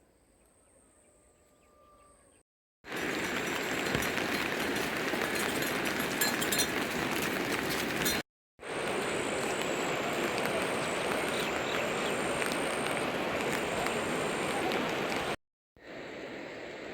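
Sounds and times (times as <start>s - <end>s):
steady rain falling: 2.9s - 16.9s.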